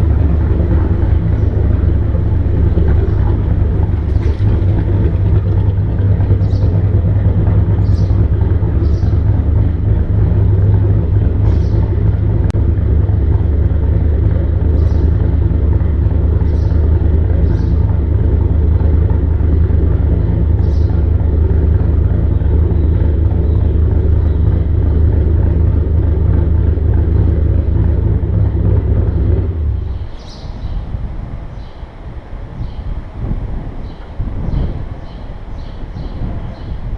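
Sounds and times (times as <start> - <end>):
car engine low rumble: 0.0 - 36.9.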